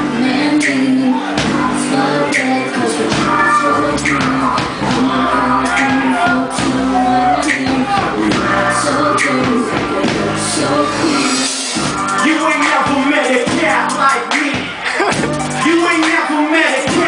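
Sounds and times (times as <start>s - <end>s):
man singing: 0.0s - 11.4s, 12.0s - 17.0s
live band playing: 0.0s - 17.0s.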